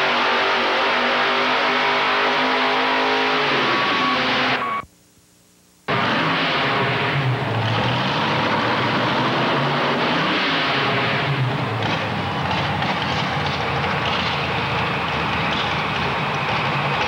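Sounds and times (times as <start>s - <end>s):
truck engine at high revs: 0.0s - 4.8s, 5.9s - 17.0s.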